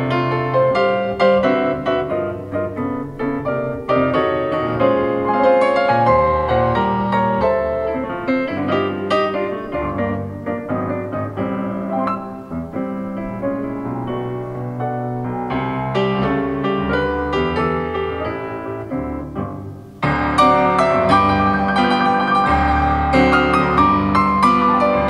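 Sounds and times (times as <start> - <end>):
solo piano: 0.0 - 25.0.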